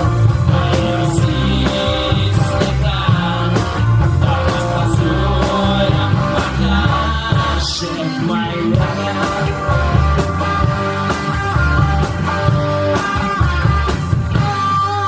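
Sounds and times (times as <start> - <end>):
bass line: 0.0 - 15.0
drums steady beat: 0.0 - 15.0
sustained guitar chords: 0.0 - 15.0.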